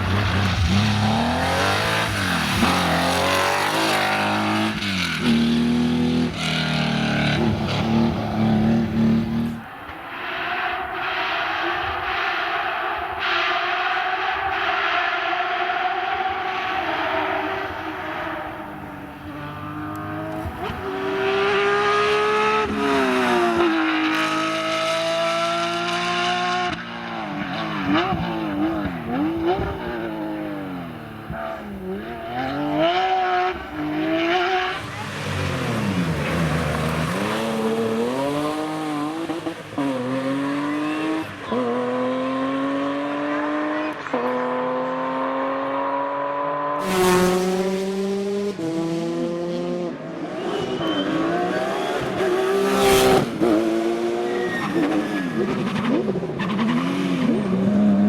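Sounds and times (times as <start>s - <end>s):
rally car engine at full throttle: 0.0s - 12.6s, 13.2s - 58.0s.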